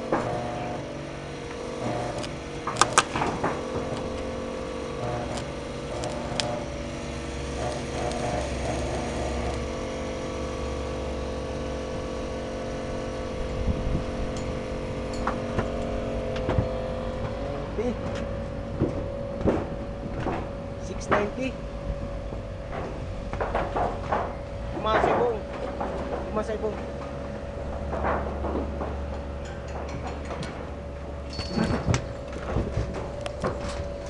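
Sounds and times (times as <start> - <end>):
welding machine humming: 0.0 - 34.0.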